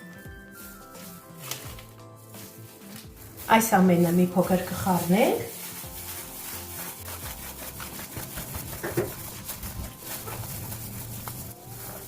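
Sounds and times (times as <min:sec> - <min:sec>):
stirring ingredients into flour: 0:00.0 - 0:12.0.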